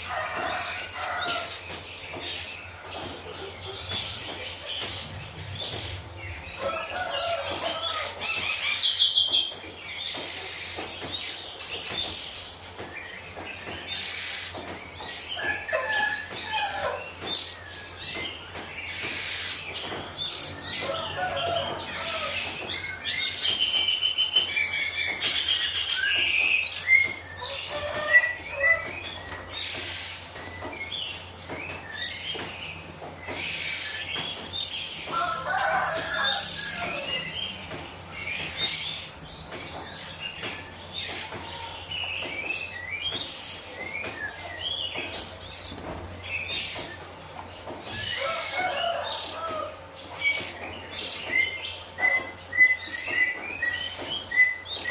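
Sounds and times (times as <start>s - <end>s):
bird chirps and whistled calls: 0.5s - 47.0s.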